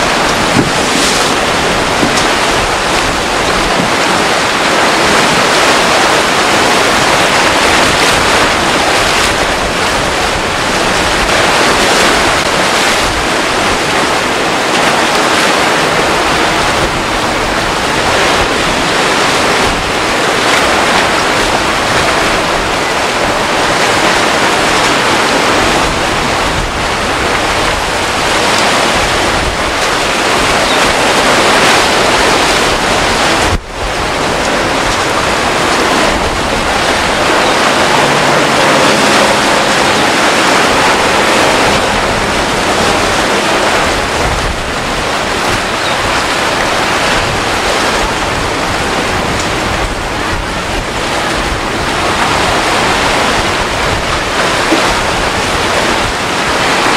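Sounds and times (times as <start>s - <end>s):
surf breaking: 0.0s - 56.9s
wind rushing over microphone: 0.0s - 56.9s.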